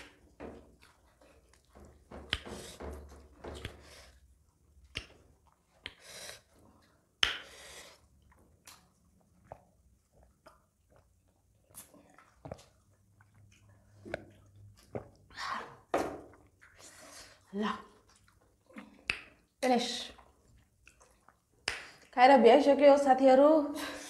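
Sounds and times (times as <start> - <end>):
chewing: 0.0 - 22.2
lip smacks and slurps: 0.0 - 22.2.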